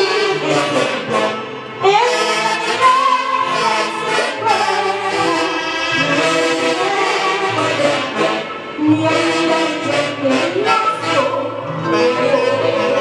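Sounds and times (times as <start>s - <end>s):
saxophones: 0.0s - 13.0s
violins: 0.0s - 13.0s.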